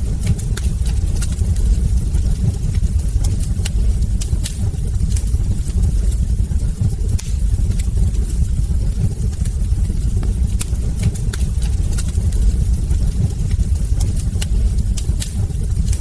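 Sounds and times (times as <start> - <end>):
logs crackling and popping: 0.0 - 16.0
low rumble of burning fire: 0.0 - 16.0.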